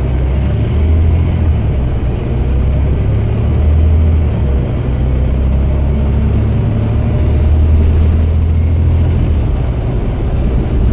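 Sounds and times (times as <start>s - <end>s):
bus diesel engine drone: 0.0s - 10.9s.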